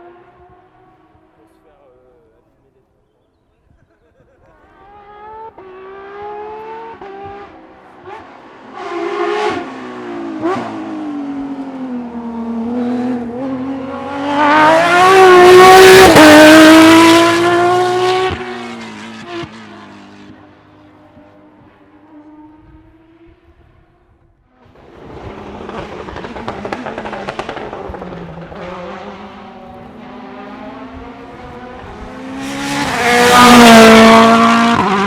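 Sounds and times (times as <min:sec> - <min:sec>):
rally car engine passing by: 0:04.5 - 0:35.0.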